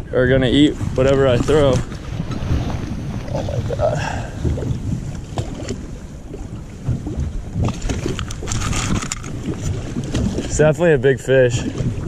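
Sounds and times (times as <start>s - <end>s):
water slapping boat hull: 0.0s - 12.0s
wind buffeting microphone: 0.0s - 12.0s.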